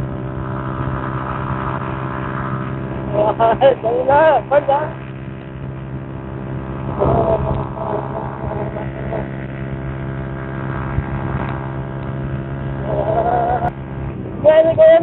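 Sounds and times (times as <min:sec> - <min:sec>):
motorcycle engine at high revs: 0:00.0 - 0:15.0
wind rushing over microphone: 0:00.0 - 0:15.0.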